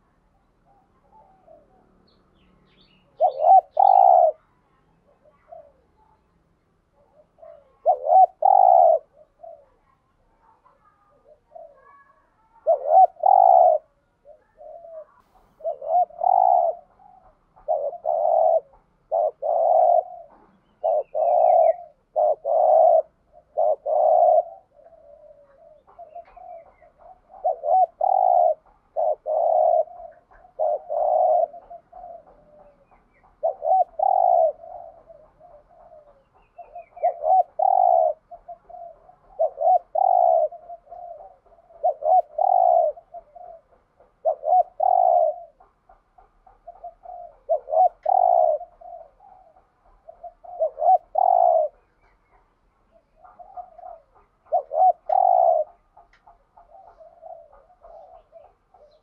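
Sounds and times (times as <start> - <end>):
dove cooing: 0.0 - 59.0
small bird chirping: 0.3 - 59.0.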